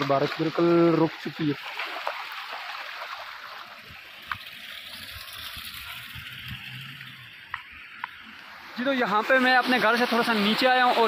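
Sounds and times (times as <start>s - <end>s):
rainwater rushing: 0.0s - 11.0s.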